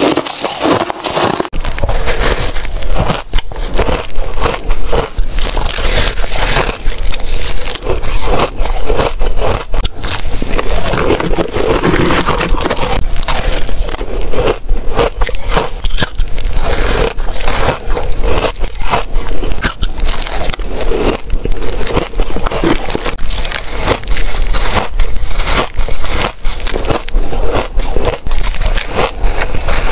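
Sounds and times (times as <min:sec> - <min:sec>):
chewing crunchy frost: 0:00.0 - 0:29.9.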